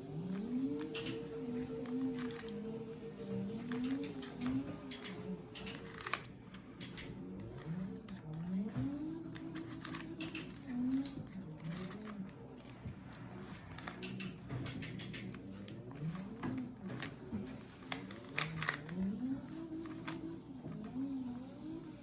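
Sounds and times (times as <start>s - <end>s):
plastic puzzle pieces clicking: 0.3s - 2.7s, 3.4s - 8.4s, 9.4s - 21.0s.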